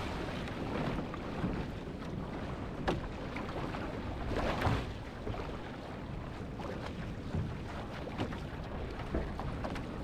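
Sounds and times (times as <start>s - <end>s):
water sloshing against boat: 0.0s - 10.0s.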